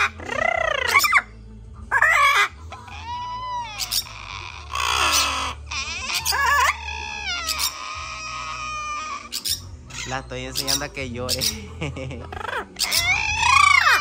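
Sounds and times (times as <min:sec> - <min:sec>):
parrot screech: 0:00.0 - 0:01.3, 0:01.9 - 0:11.6, 0:12.4 - 0:14.0
parrot squawking and whistling: 0:00.0 - 0:01.3, 0:01.9 - 0:14.0.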